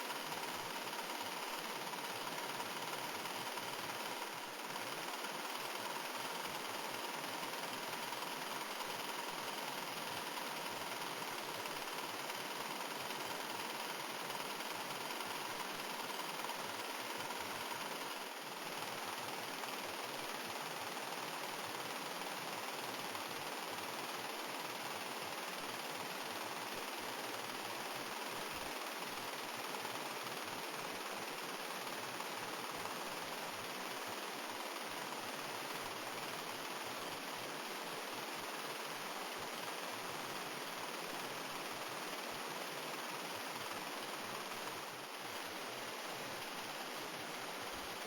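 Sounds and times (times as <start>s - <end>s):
small model engine running: 0.0s - 48.0s.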